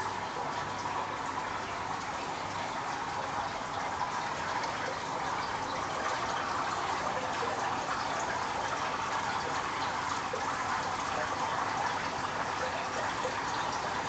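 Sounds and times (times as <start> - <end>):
water running into pool: 0.0 - 14.0.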